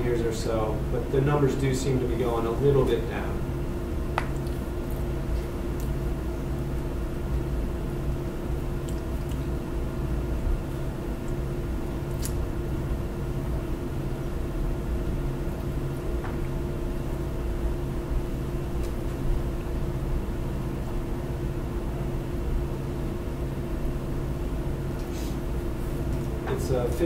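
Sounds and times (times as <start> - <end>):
room hum and hiss: 0.0 - 27.0.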